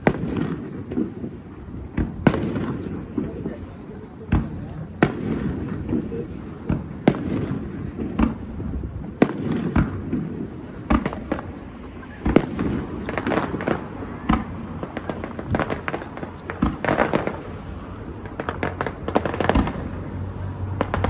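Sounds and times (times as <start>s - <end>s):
fireworks bangs and crackling pops: 0.0s - 21.0s.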